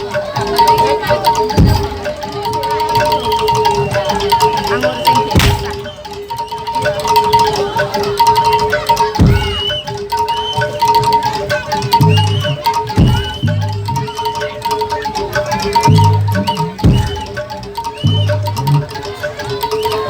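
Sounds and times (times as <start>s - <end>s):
gamelan metal percussion: 0.0s - 20.0s.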